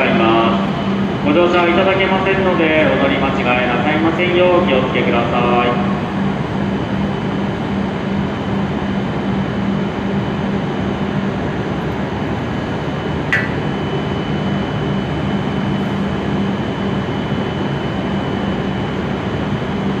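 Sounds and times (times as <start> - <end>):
train ventilation hiss with hum: 0.0 - 20.0.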